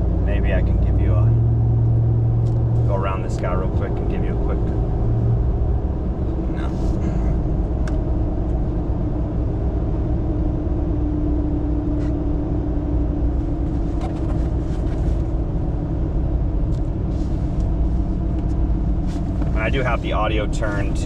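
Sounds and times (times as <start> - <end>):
engine and exhaust drone: 0.0 - 21.0
road rumble: 0.0 - 21.0.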